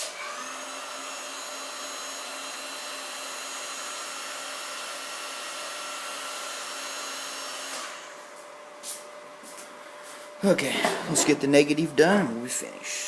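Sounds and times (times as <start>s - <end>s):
hot-air blower fan whine: 0.0s - 13.0s.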